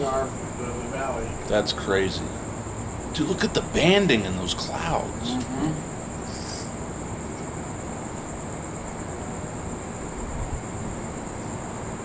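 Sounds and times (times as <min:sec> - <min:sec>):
continuous low rumble: 0:00.0 - 0:12.0
crickets trilling: 0:00.0 - 0:12.0.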